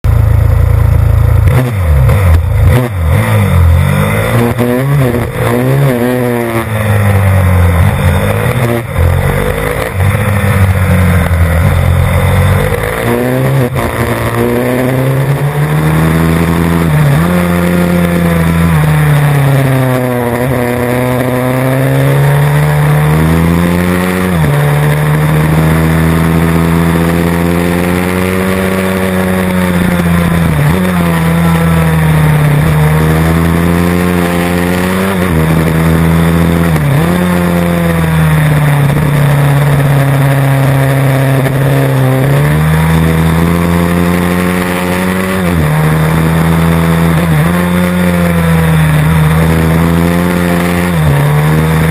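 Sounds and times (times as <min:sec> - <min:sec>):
pit bike engine revving: 0:00.1 - 0:51.9.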